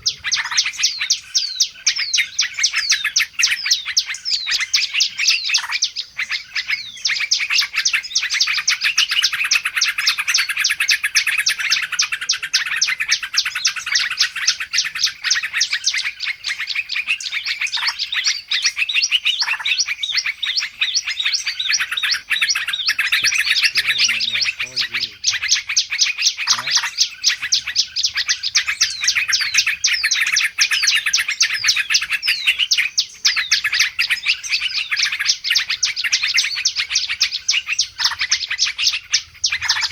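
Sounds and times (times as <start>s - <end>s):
songbird chorus chirping: 0.0s - 39.9s.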